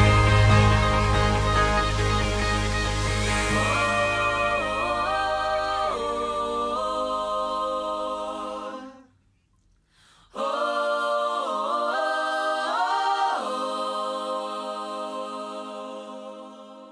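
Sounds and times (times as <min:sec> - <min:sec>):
wordless choir-like voices: 0:00.0 - 0:09.2, 0:10.1 - 0:16.9.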